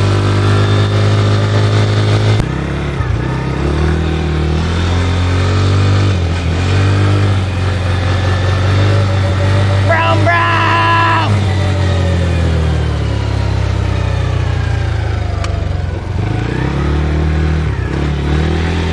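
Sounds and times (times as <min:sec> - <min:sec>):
quad bike engine running: 0:00.0 - 0:18.9.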